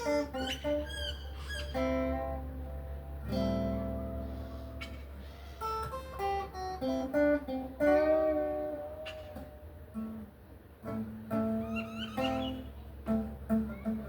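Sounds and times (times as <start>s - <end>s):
acoustic guitar plucked: 0.0s - 14.0s.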